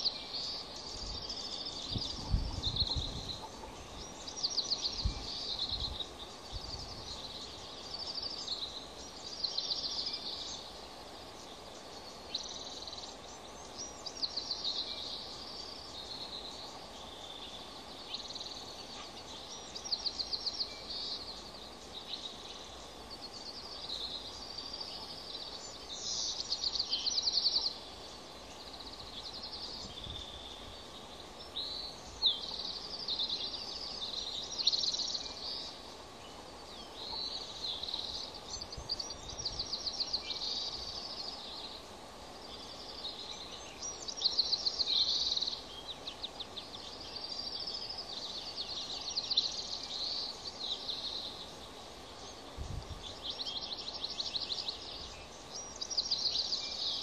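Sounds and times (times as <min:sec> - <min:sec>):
steady low hiss: 0:00.0 - 0:57.0.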